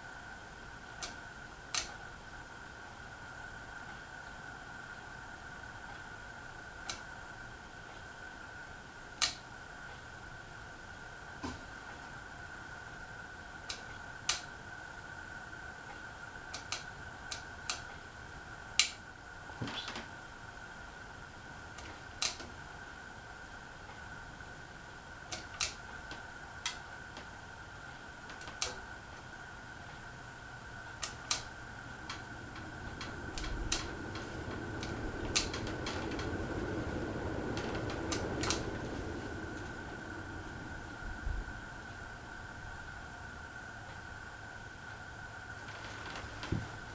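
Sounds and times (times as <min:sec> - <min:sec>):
ceiling fan whining: 0:00.0 - 0:46.9.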